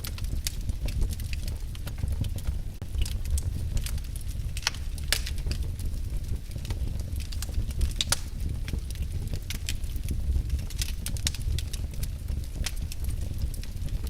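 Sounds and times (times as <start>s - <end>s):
fire crackling and popping: 0.0s - 14.0s
rumble of flames: 0.0s - 14.0s.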